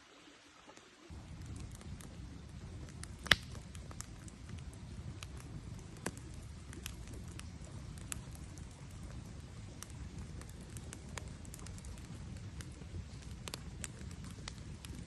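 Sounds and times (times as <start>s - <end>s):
campfire crackling: 0.6s - 15.0s
sharp pops from fire: 1.1s - 15.0s.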